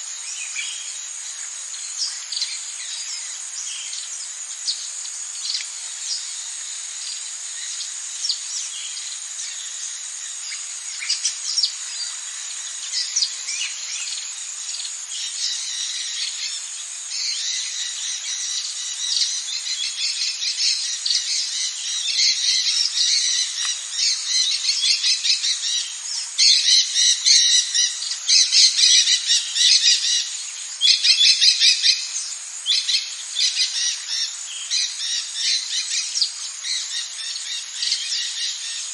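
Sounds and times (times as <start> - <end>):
bird calls: 0.0 - 38.9
high insect drone: 0.0 - 38.9.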